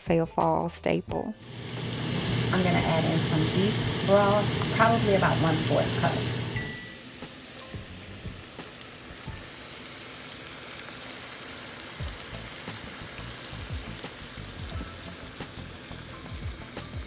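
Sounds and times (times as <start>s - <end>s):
meat sizzling in a skillet: 1.4s - 17.0s.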